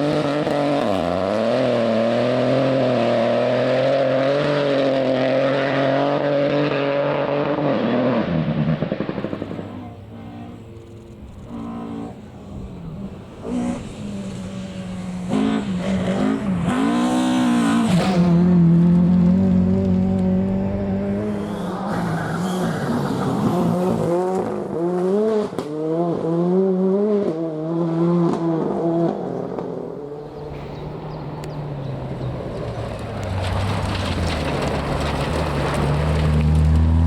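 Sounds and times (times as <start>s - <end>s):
rally car engine at full throttle: 0.0s - 37.0s.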